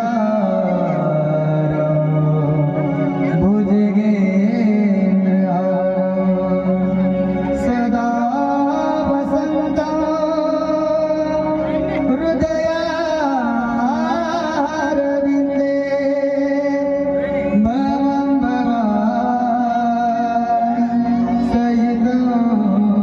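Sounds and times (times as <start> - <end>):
man singing devotional melody: 0.0 - 23.0
steady instrumental drone: 0.0 - 23.0.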